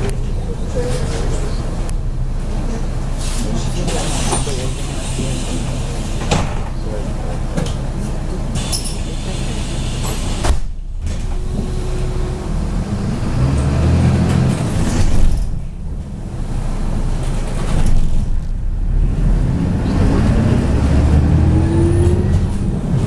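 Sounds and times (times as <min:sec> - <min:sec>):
bus diesel engine rumble: 0:00.0 - 0:23.0.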